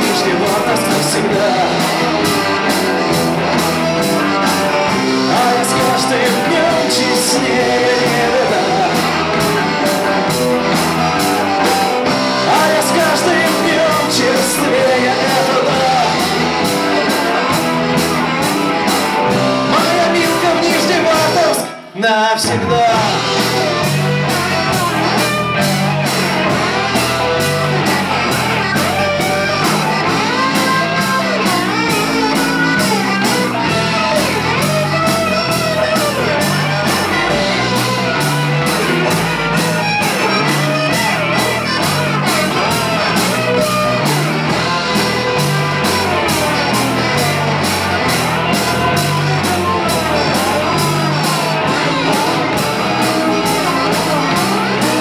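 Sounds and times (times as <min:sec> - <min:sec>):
instrumental rock music: 0:00.0 - 0:55.0.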